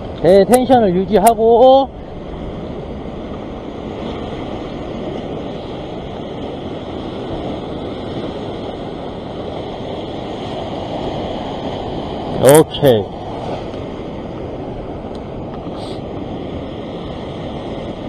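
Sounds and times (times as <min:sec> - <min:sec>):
ocean surf breaking on rocks: 0:00.0 - 0:18.0.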